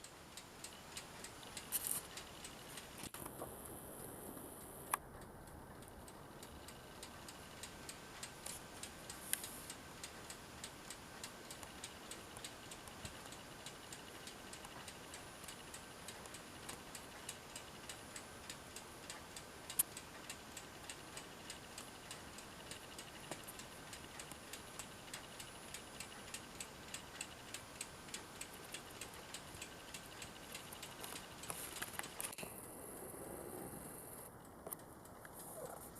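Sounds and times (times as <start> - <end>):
faint electrical whine: 0.0 - 35.9.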